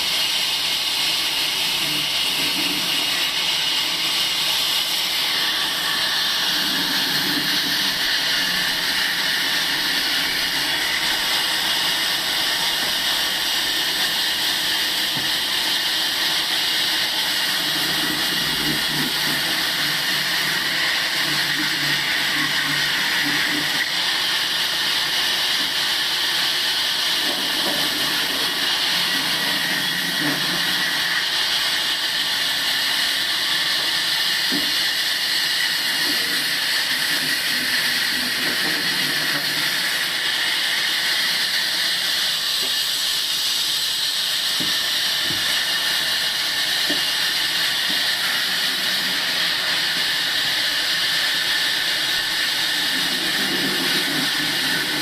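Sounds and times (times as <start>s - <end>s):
sawmill cutting wood: 0.0s - 55.0s.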